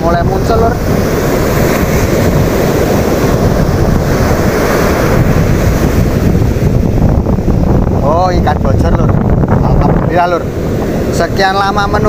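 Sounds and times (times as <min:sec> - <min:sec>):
breaking surf: 0:00.0 - 0:12.0
wind buffeting microphone: 0:00.0 - 0:12.0.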